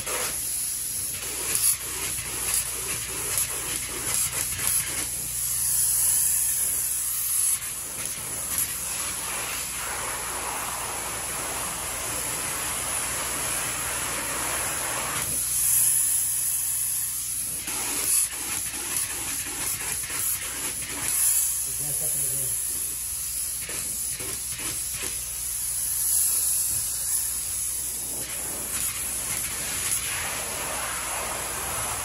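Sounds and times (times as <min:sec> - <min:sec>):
spray foam gun hissing: 0:00.0 - 0:32.0.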